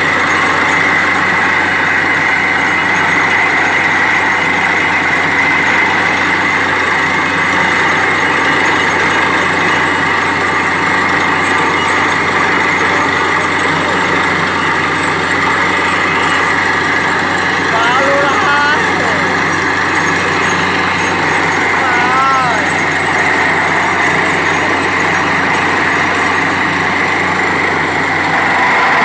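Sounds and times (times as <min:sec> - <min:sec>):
drilling rig engine drone: 0:00.0 - 0:29.0
high whine: 0:00.0 - 0:29.0.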